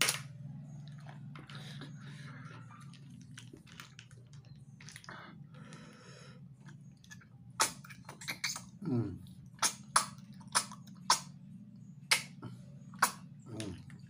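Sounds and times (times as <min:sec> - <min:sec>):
chewing and mouth noises: 0:00.6 - 0:14.0.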